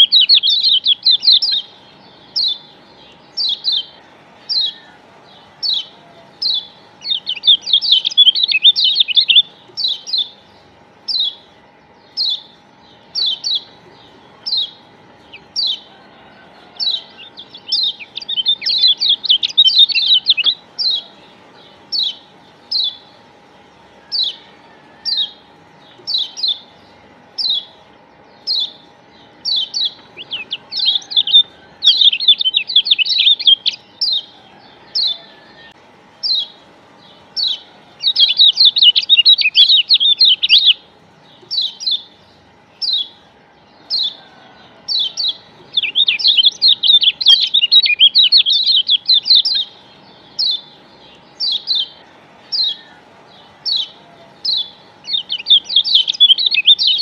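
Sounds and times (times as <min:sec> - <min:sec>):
bird chattering trills: 0:00.0 - 0:57.0
bird high chirps: 0:00.0 - 0:57.0.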